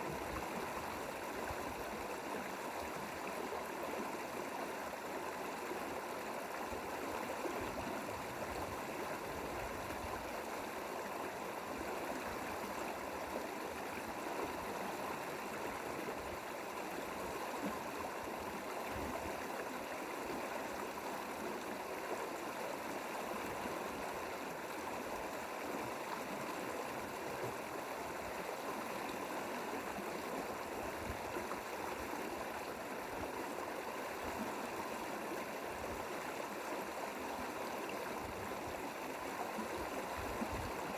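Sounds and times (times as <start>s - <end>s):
stream water running: 0.0s - 40.9s.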